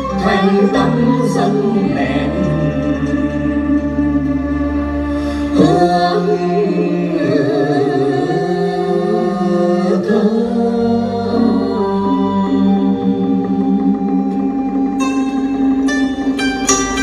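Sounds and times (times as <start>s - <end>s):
person singing long wavering notes: 0.0s - 16.4s
musical accompaniment: 0.0s - 17.0s.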